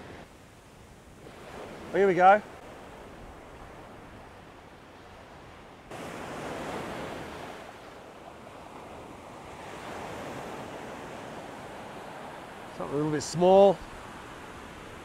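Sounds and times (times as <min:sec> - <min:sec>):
ocean surf breaking: 0:01.1 - 0:15.0.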